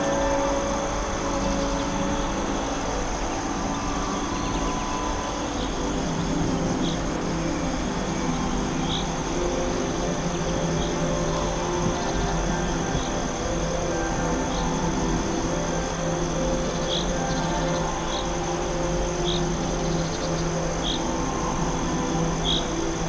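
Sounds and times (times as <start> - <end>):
background hiss: 0.0 - 23.0
high insect buzz: 0.0 - 23.0
low sustained tones: 0.0 - 23.0.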